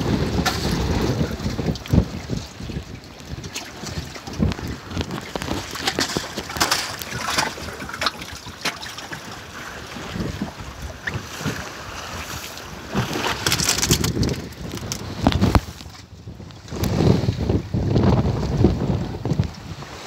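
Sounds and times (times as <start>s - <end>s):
water slapping against hull: 0.0s - 20.0s
wind buffeting microphone: 0.0s - 20.0s.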